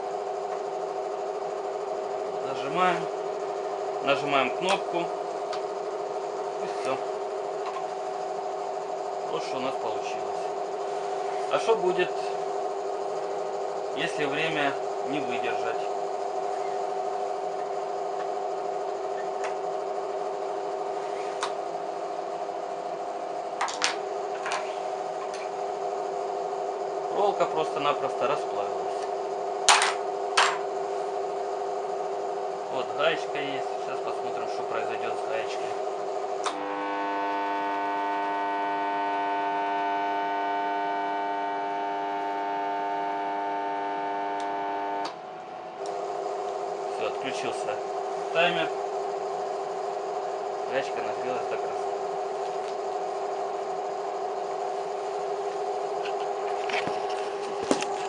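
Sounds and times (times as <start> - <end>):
spot welder transformer humming: 0.0 - 58.0.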